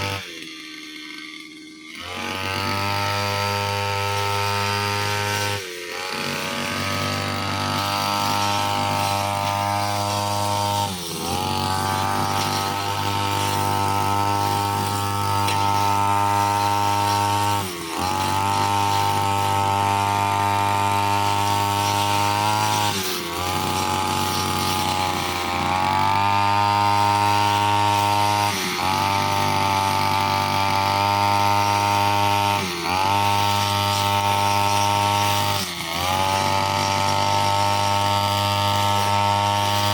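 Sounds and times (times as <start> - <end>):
brushcutter engine at high revs: 0.0 - 39.9.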